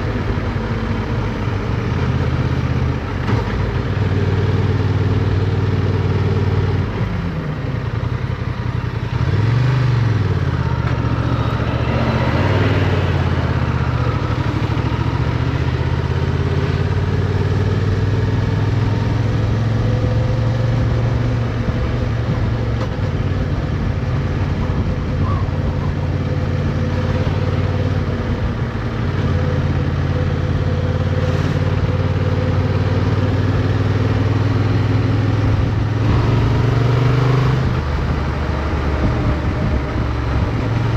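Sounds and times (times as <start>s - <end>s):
motorcycle engine: 0.0s - 40.9s
road and wind noise: 0.0s - 40.9s.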